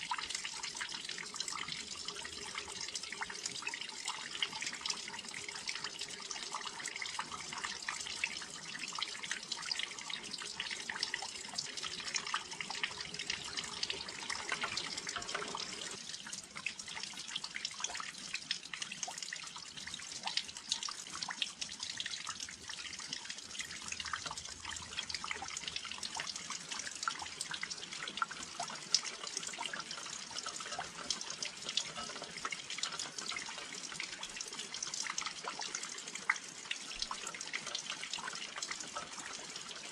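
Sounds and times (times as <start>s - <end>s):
raindrops on a windowsill: 0.0s - 39.9s.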